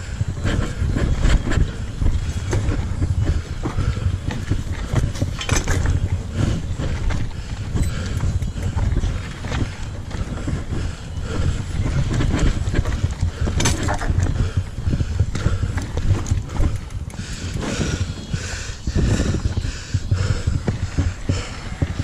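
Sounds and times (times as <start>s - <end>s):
bike rattling: 0.0s - 22.0s
wind buffeting microphone: 0.0s - 22.0s.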